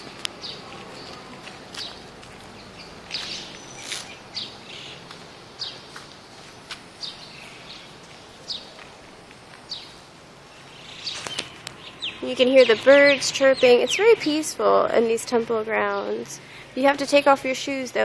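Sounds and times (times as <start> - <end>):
small birds chirping: 0.0 - 17.7
faint steady background noise: 0.0 - 18.0.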